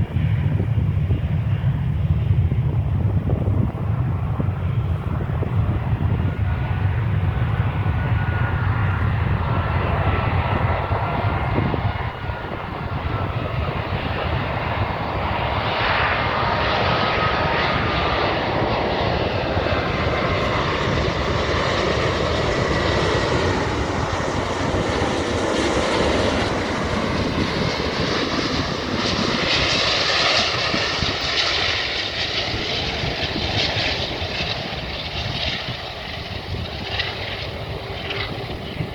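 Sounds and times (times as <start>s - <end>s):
jet engine whine: 0.0s - 38.9s
jet engines roaring: 0.0s - 38.9s.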